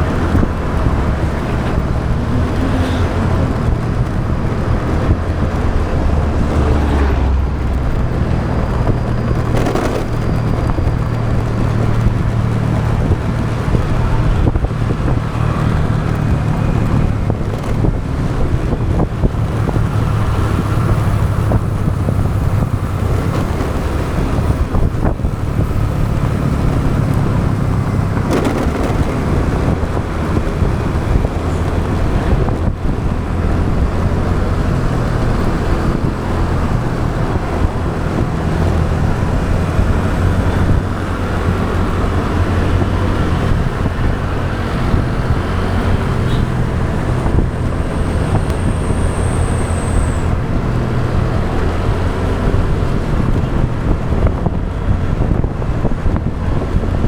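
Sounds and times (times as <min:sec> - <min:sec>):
motorbike engine running: 0:00.0 - 0:57.0
road noise: 0:00.0 - 0:57.0
wind on microphone: 0:00.0 - 0:57.0.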